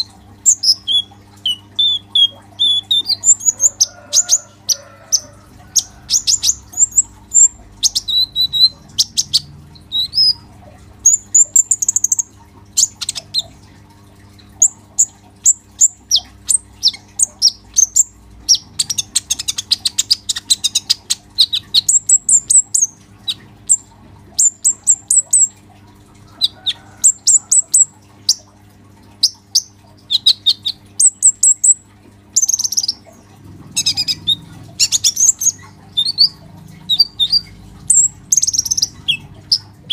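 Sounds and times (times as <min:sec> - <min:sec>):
bird chirping and trilling: 0:00.0 - 0:13.6, 0:14.6 - 0:25.6, 0:26.4 - 0:28.5, 0:29.2 - 0:31.8, 0:32.4 - 0:39.9.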